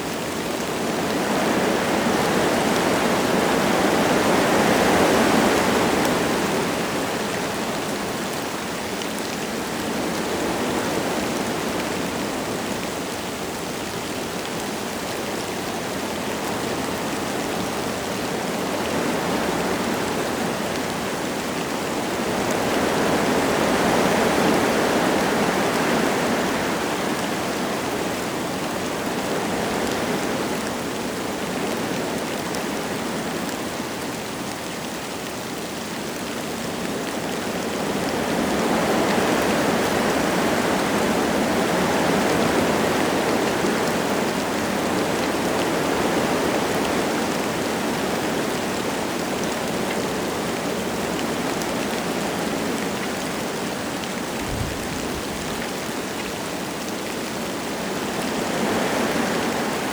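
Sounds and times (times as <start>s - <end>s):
light rain falling: 0.0s - 59.9s
wind gusting through trees: 0.0s - 59.9s.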